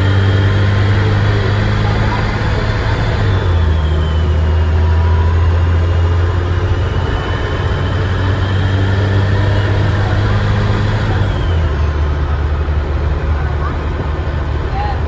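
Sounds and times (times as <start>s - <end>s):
turbocharger whistle: 0.0s - 12.4s
bus engine drone: 0.0s - 15.0s.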